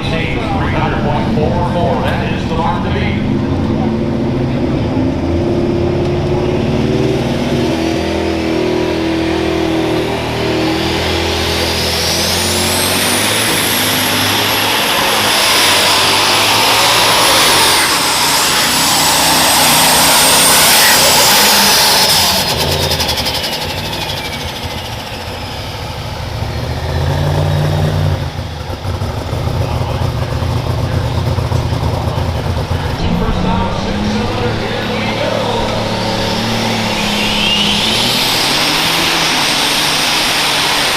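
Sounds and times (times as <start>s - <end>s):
high turbo whine: 0.0s - 40.9s
tractor engine under full power: 0.0s - 40.9s.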